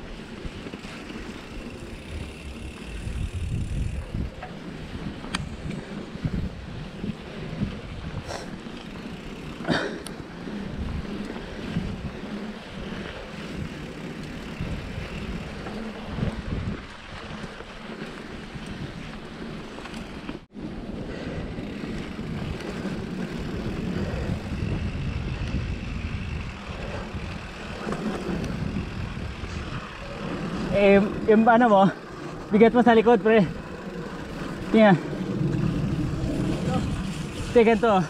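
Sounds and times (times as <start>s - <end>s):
rumble and rattle on dirt trail: 0.0s - 38.0s
wind rushing over microphone: 1.3s - 9.5s, 10.3s - 19.6s, 20.5s - 38.0s.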